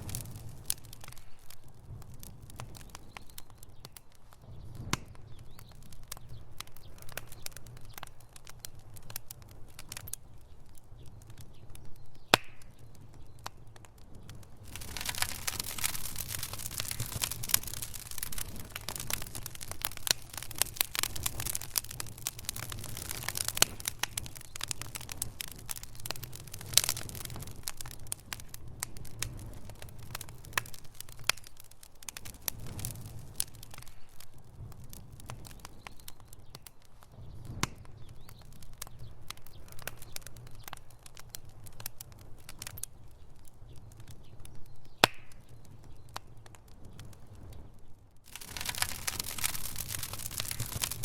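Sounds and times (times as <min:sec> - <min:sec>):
fire crackling in a fireplace: 0:00.0 - 0:51.0
low rumble of flame: 0:00.0 - 0:51.0
sharp fire pops: 0:00.0 - 0:51.0.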